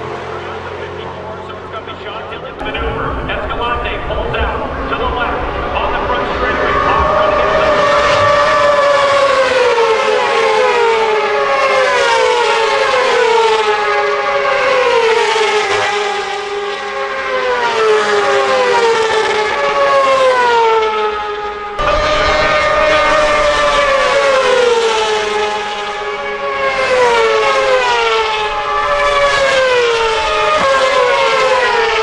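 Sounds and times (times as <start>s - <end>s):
racing motorcycles passing: 0.0s - 32.0s.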